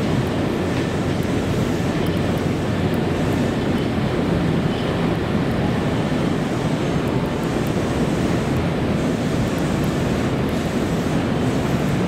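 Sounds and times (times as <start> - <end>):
electric train rumble and hiss: 0.0 - 12.0.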